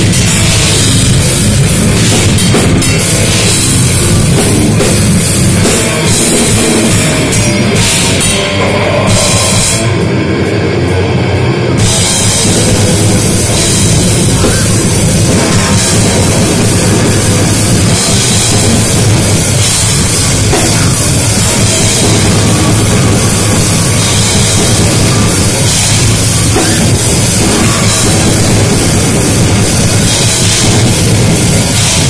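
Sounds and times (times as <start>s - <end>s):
distorted electric guitars: 0.0s - 32.0s
drum kit with cymbals: 0.0s - 32.0s.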